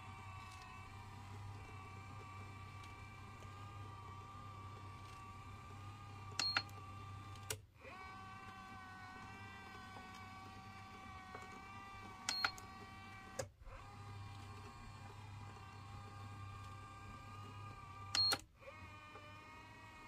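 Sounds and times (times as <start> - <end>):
massager motor whine: 0.0 - 20.0.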